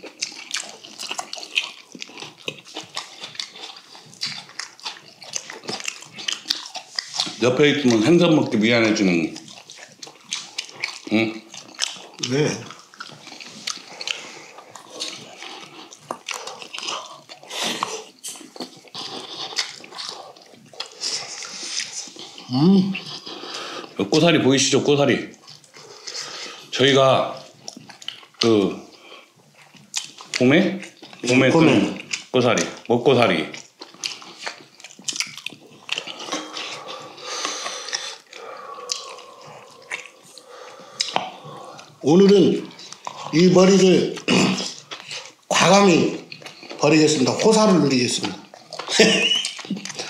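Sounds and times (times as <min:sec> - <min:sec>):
wet chewing and mouth smacking: 0:00.0 - 0:50.0.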